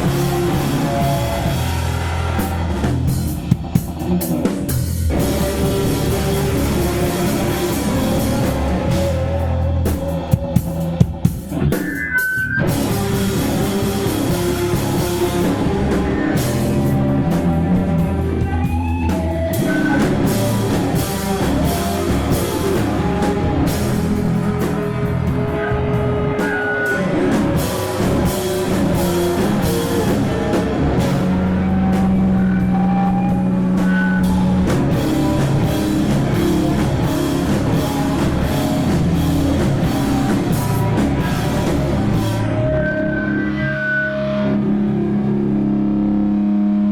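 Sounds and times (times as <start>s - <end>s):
rock band playing live: 0.0s - 44.6s.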